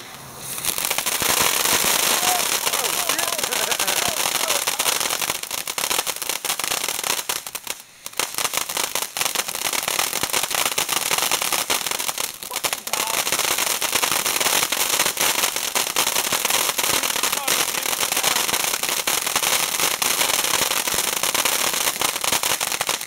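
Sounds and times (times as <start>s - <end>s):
firework crackling: 0.0s - 23.0s
firework spray hiss: 0.0s - 23.0s.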